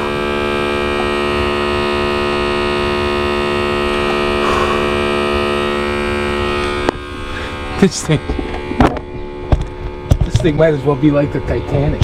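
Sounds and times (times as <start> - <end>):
electric air pump humming: 0.0 - 10.1.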